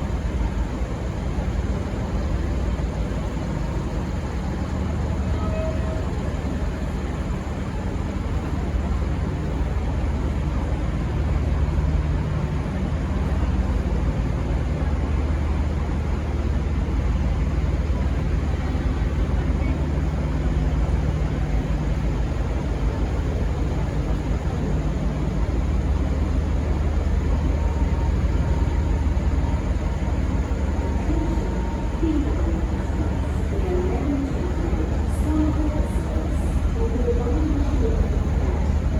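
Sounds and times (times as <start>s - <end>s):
diesel locomotive engine drone: 0.0s - 38.9s.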